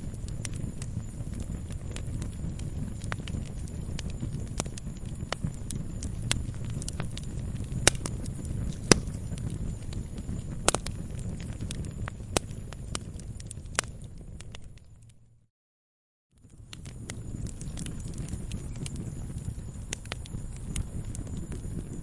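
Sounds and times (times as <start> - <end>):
wood fire crackling: 0.0 - 15.3, 16.4 - 22.0
low rumble of flames: 0.0 - 15.5, 16.4 - 22.0.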